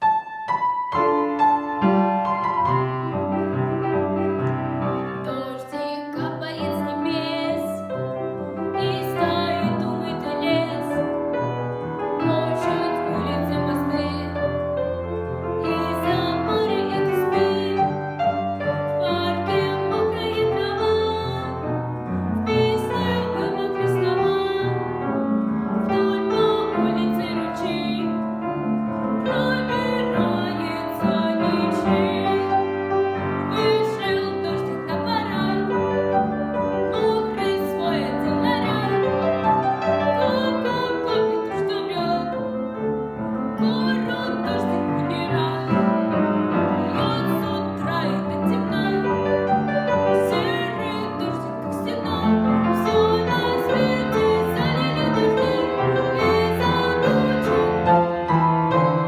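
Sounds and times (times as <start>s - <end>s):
piano playing: 0.0s - 59.0s
woman singing: 5.2s - 11.5s, 12.2s - 14.9s, 15.6s - 21.8s, 22.4s - 25.1s, 25.8s - 28.2s, 29.2s - 32.7s, 33.4s - 42.7s, 43.5s - 58.3s.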